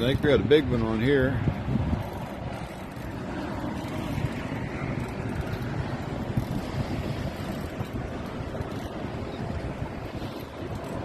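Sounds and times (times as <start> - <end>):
water lapping around boat: 0.0 - 11.0
wind buffeting microphone: 0.0 - 11.0.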